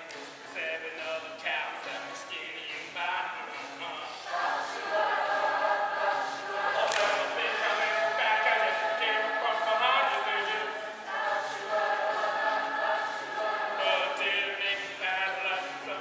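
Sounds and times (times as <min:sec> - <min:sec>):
backing music: 0:00.0 - 0:16.0
chorus singing: 0:00.0 - 0:16.0.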